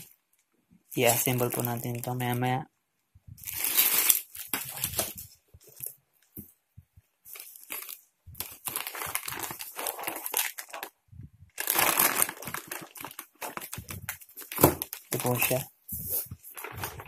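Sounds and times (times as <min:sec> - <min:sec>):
plastic and foil bag crinkling: 0:00.9 - 0:02.5, 0:03.4 - 0:05.9, 0:07.3 - 0:17.0.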